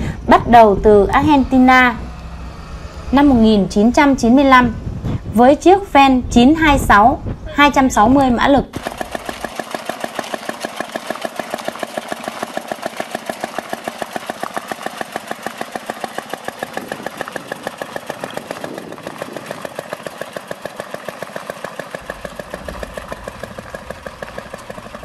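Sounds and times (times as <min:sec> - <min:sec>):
small tractor engine running: 0:00.0 - 0:05.0, 0:08.7 - 0:25.0.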